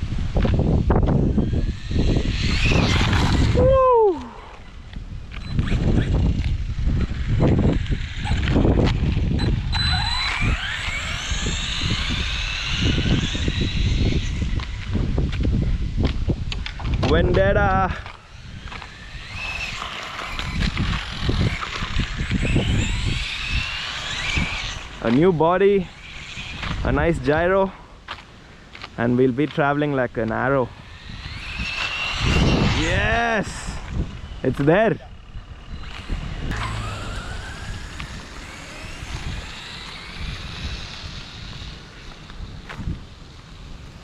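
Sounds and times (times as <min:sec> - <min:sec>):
electric motor whining: 0:00.0 - 0:27.5, 0:30.3 - 0:44.0
wind rumbling on microphone: 0:00.0 - 0:44.0.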